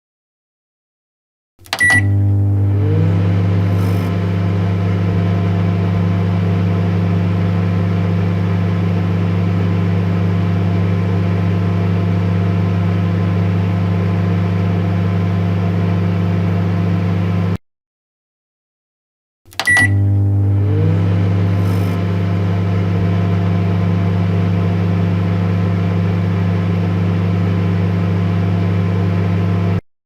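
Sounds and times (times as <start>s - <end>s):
microwave oven humming: 1.6s - 17.6s, 19.5s - 29.8s.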